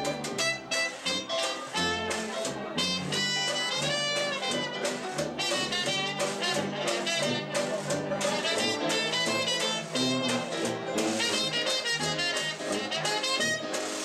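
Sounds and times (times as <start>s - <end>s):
walking bass line: 0.0s - 13.0s
horn melody: 0.0s - 14.0s
swing jazz band playing: 0.0s - 14.0s.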